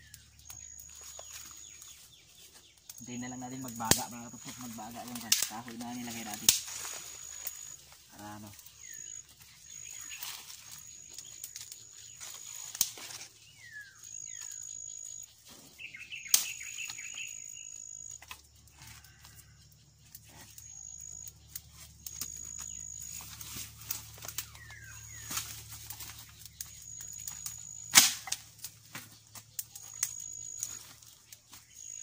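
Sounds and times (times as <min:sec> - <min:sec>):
birds chirping: 0:00.0 - 0:32.0
dry twigs snapping: 0:00.1 - 0:14.7, 0:16.2 - 0:17.4, 0:20.1 - 0:32.0.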